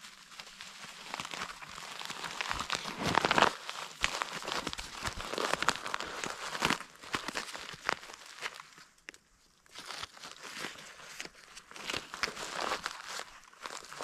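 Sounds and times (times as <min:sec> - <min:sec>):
bark crinkling and crackling: 0:00.0 - 0:14.0.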